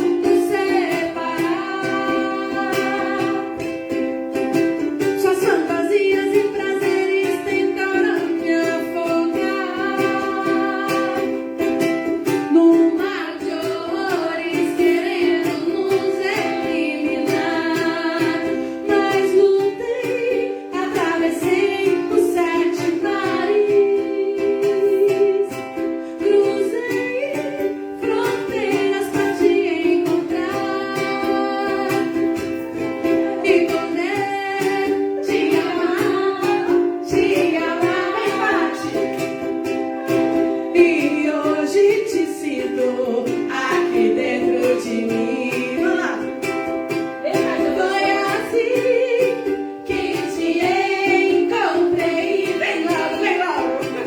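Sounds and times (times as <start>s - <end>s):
person singing: 0.0s - 54.0s
plucked acoustic string instrument: 0.0s - 54.0s.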